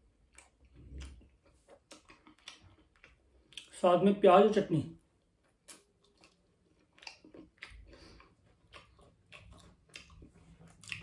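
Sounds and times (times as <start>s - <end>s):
faint chewing: 0.0s - 3.8s, 5.2s - 11.0s.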